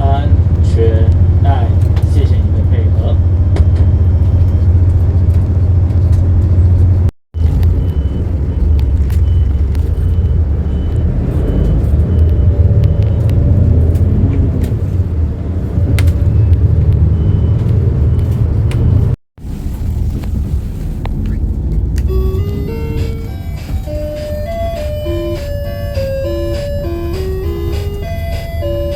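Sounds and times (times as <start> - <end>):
bus engine and road rumble: 0.0 - 28.9.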